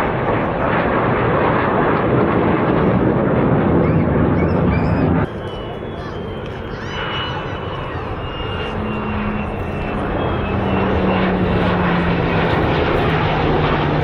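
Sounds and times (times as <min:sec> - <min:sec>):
military aircraft engine roar: 0:00.0 - 0:14.0.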